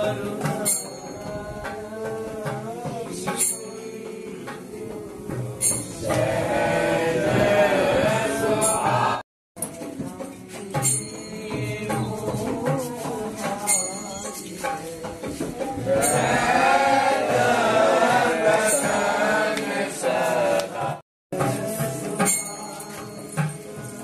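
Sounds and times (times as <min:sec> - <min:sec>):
jingling hand percussion: 0:00.0 - 0:06.7, 0:08.6 - 0:19.8, 0:21.4 - 0:24.0
voices chanting devotional song: 0:00.0 - 0:24.0.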